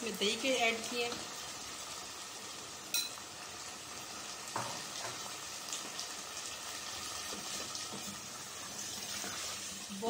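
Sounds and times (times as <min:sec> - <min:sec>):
chicken sizzling in a pot: 0:00.0 - 0:10.0.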